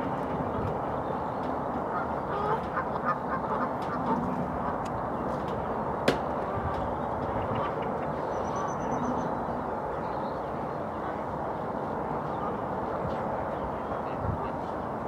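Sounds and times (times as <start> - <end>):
outdoor rumble and hiss: 0.0 - 15.0.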